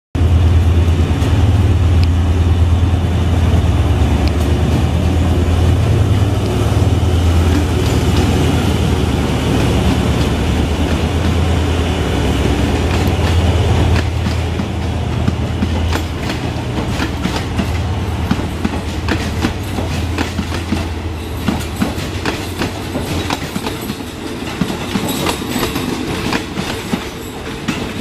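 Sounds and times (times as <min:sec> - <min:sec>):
diesel locomotive engine drone: 0:00.2 - 0:28.0
train coaches rolling past: 0:00.2 - 0:28.0.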